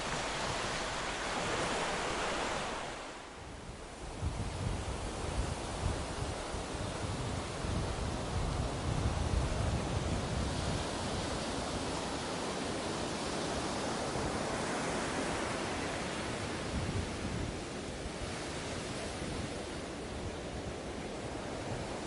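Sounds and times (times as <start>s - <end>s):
ocean surf washing: 0.0s - 22.0s.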